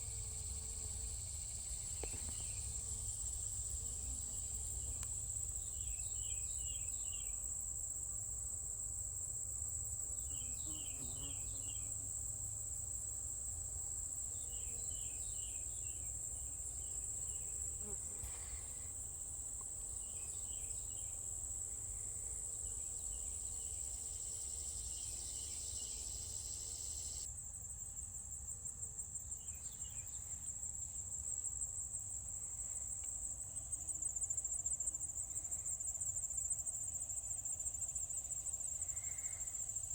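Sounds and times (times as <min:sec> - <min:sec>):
high-pitched cricket trill: 0:00.0 - 0:39.9
insect rapid chirps: 0:00.0 - 0:39.9.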